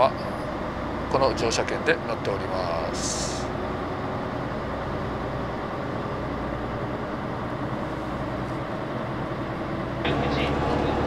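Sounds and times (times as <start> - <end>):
railcar cabin rumble: 0.0 - 11.0.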